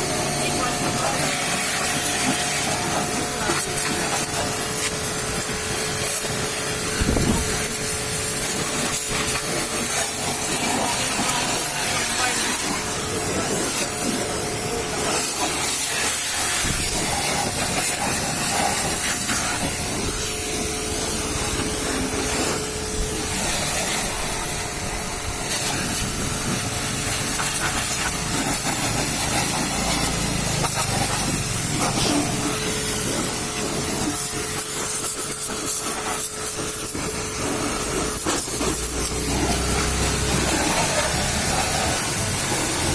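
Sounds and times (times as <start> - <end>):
constant hum: 0.0 - 42.9
pressure washer spraying: 0.0 - 42.9.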